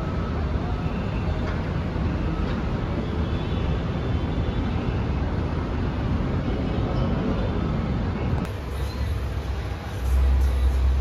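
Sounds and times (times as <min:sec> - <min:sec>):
distant city traffic rumble: 0:00.0 - 0:11.0.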